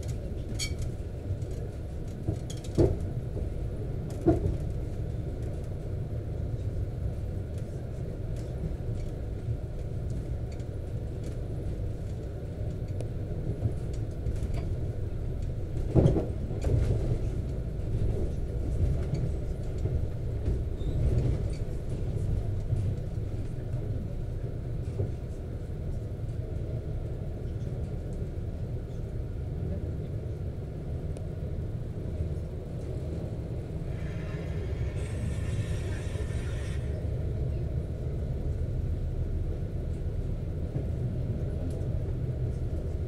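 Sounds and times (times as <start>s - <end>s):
train rumbling at speed: 0.0s - 43.0s.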